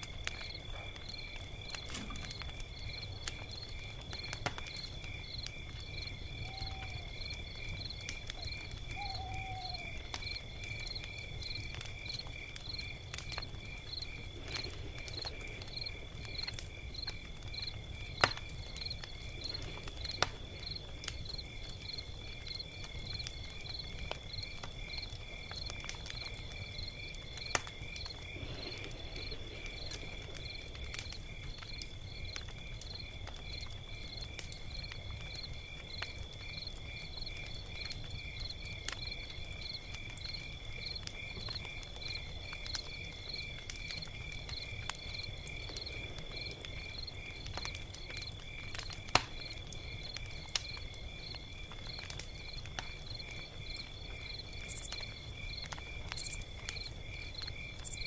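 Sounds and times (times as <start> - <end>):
fire crackling pops: 0.0 - 58.0
insects chirping: 0.0 - 58.0
log fire rumbling: 0.0 - 58.0.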